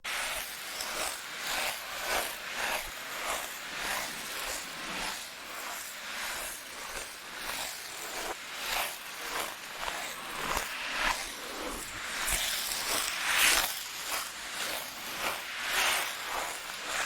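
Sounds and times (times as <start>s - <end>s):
ice-skate blades scraping ice: 0.1s - 17.0s.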